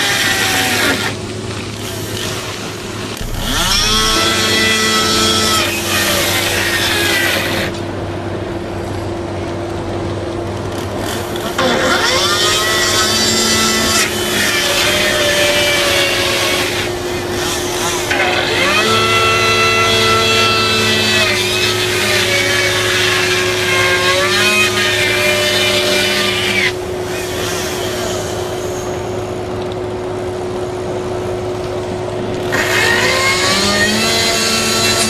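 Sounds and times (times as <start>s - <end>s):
loud mechanical whine: 0.0s - 35.0s
machinery hum: 1.2s - 23.5s, 26.7s - 34.9s.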